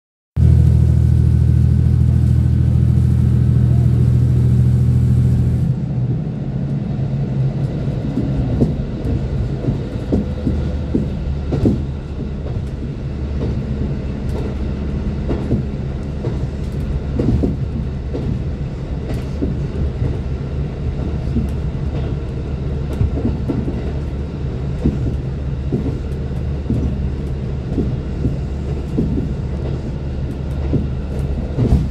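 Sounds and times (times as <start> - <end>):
railcar diesel engine droning: 0.4 - 31.9
wheels rumbling on rails: 0.4 - 31.9.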